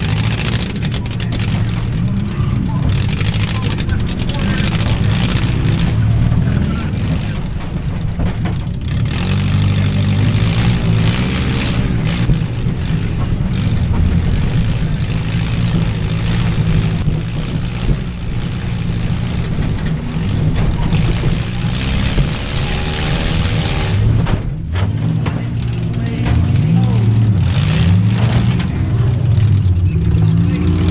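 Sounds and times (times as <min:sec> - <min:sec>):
van engine revving: 0:00.0 - 0:30.9.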